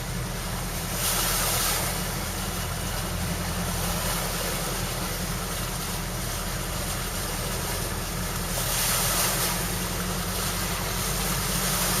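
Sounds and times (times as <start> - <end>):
vehicle engine rumble: 0.0 - 12.0
water rushing hiss: 0.0 - 12.0.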